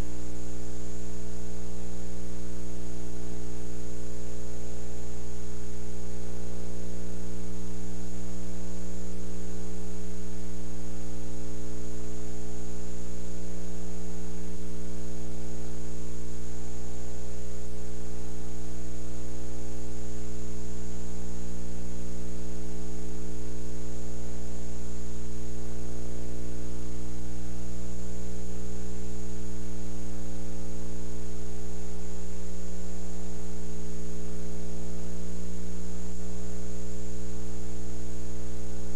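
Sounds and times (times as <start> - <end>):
electrical mains hum: 0.0 - 38.9
thin high whine: 0.0 - 38.9.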